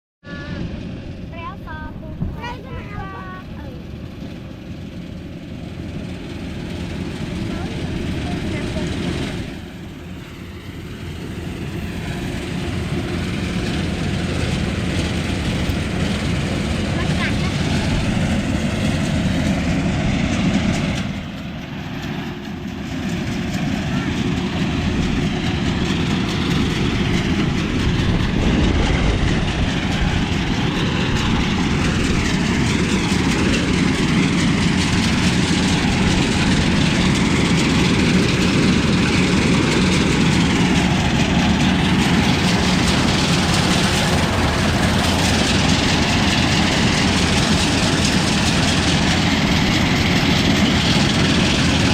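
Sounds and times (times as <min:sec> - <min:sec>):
heavy engine running: 0:00.2 - 0:51.9.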